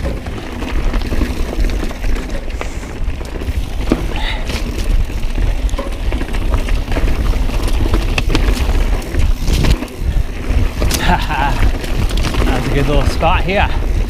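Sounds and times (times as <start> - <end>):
bike clacking on rocks: 0.0 - 14.0
bike tyres and wind rumble: 0.0 - 14.0.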